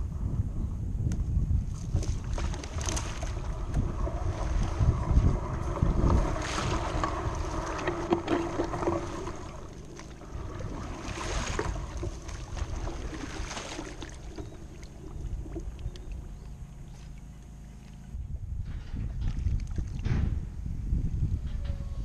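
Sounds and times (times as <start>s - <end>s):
wind buffeting microphone: 0.0s - 22.0s
water splashing against hull: 1.6s - 18.2s, 18.9s - 20.4s.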